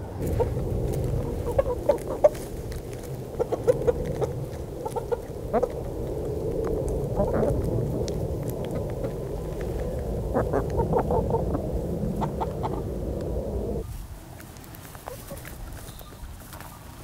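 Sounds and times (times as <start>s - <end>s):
chickens clucking: 0.0s - 13.8s, 14.9s - 15.8s.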